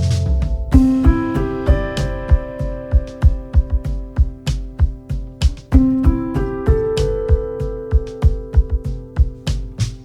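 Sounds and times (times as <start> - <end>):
keyboard chords: 0.0 - 10.0
steady drum beat: 0.0 - 10.0.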